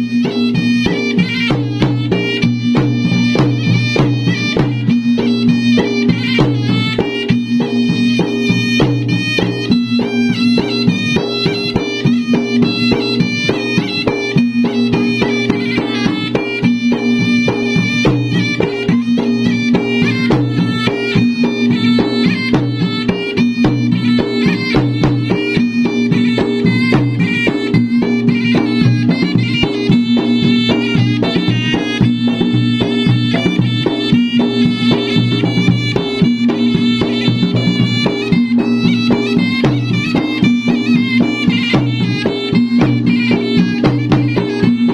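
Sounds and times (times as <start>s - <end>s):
drums in fast interlocking strokes: 0.0s - 44.9s
reedy wind instrument melody: 0.0s - 44.9s.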